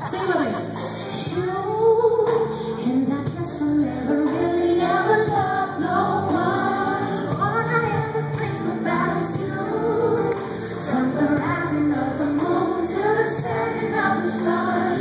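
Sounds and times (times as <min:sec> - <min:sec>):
woman singing: 0:01.1 - 0:15.0.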